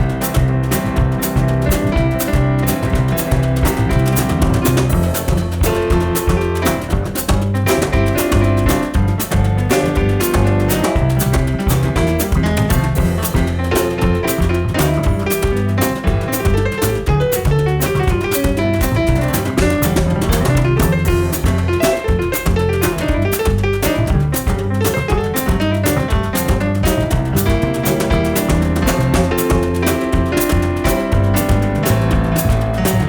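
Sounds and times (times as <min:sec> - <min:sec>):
busy drums: 0:00.0 - 0:33.0
jazz piano: 0:00.0 - 0:33.0
walking bass line: 0:00.0 - 0:33.0.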